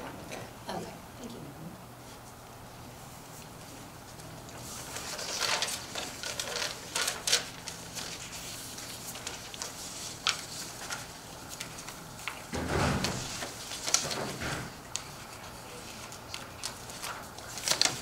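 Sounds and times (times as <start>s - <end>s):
rustling and handling noise: 2.0s - 18.0s.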